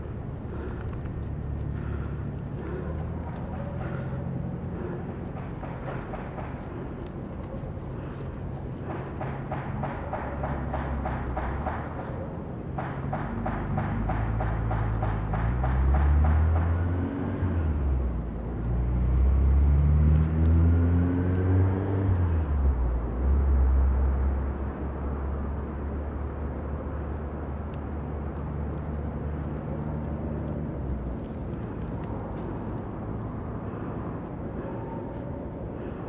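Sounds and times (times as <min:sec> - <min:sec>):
vehicle engine running: 0:00.0 - 0:24.0, 0:26.2 - 0:36.0.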